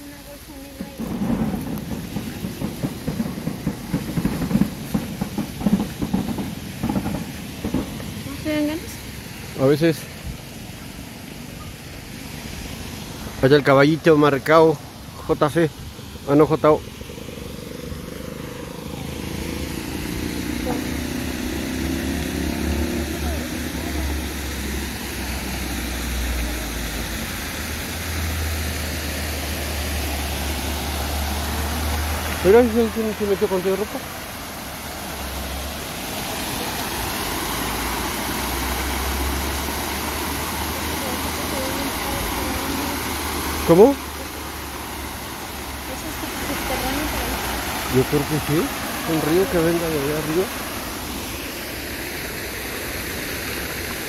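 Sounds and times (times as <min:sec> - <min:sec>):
rushing spring water: 0:00.0 - 0:54.0.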